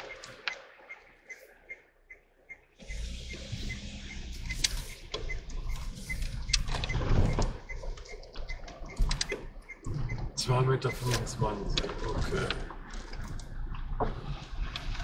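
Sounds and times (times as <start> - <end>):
car engine starting and rumbling: 2.8 - 15.0.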